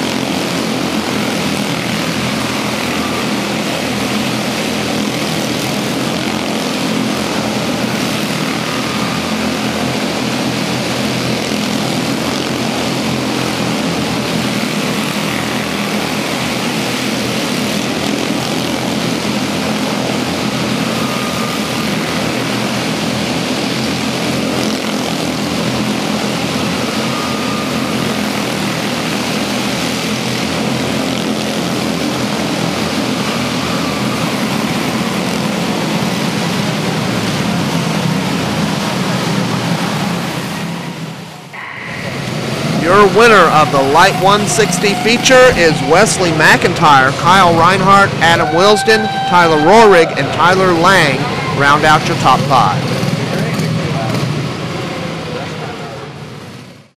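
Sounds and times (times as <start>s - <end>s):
race car engines buzzing: 0.0s - 56.9s.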